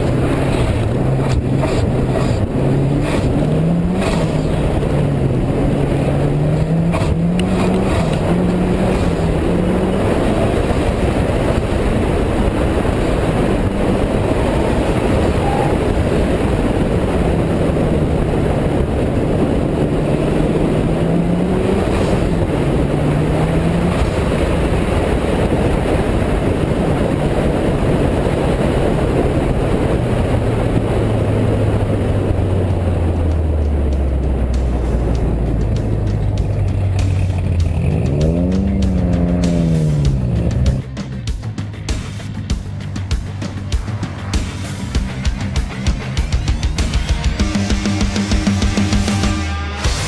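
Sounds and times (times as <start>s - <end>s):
wind rushing: 0.0s - 41.0s
tyre noise on loose dirt: 0.0s - 49.0s
car engine running hard: 0.0s - 50.0s.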